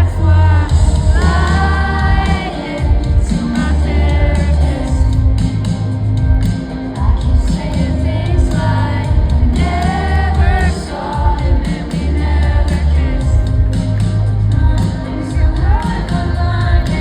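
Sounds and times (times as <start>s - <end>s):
woman singing lead vocal: 0.0s - 5.8s, 6.7s - 17.0s
heavy bass line: 0.0s - 17.0s
live pop band playing: 0.0s - 17.0s.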